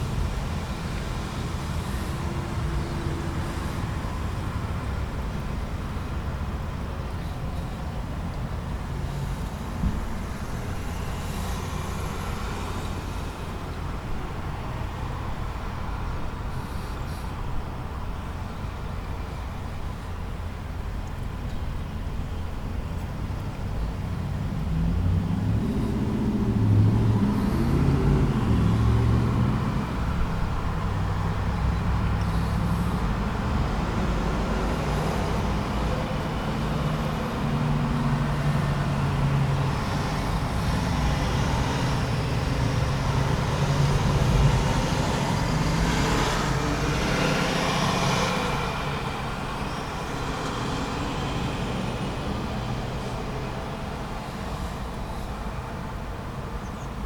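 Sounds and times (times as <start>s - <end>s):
passing vehicles: 0.0s - 57.0s
vehicle engines running: 0.0s - 57.0s.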